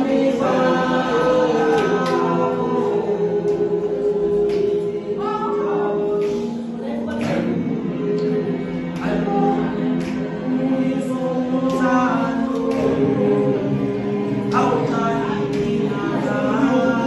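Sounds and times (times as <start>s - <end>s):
group singing in harmony: 0.0s - 17.0s.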